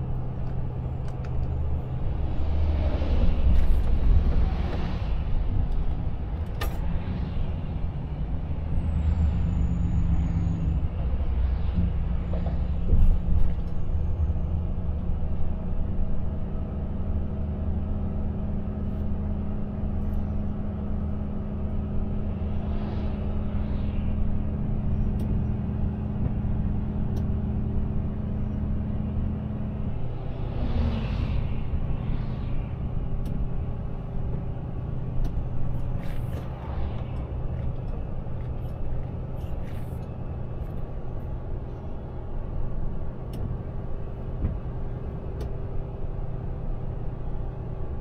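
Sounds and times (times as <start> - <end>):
diesel engine droning: 0.0 - 48.0.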